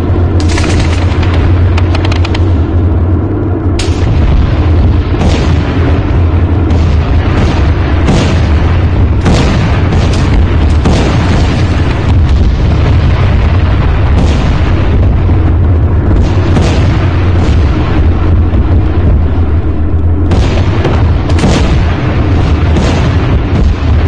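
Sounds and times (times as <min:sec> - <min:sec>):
heavy rumble: 0:00.0 - 0:24.0
sharp booms or shots: 0:00.0 - 0:24.0.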